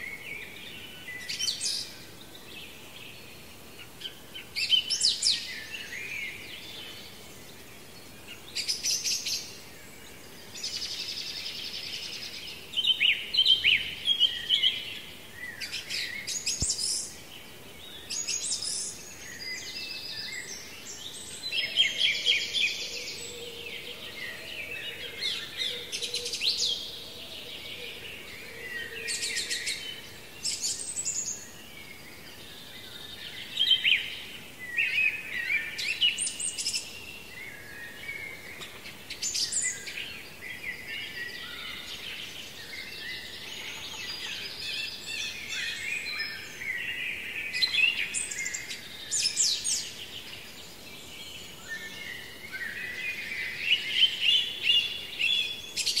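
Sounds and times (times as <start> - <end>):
songbirds singing in chorus: 0.0 - 56.0.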